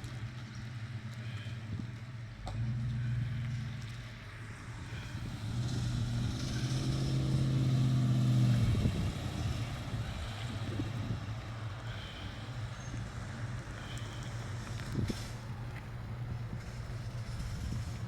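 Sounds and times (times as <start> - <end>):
cars driving slowly past: 0.0 - 18.0.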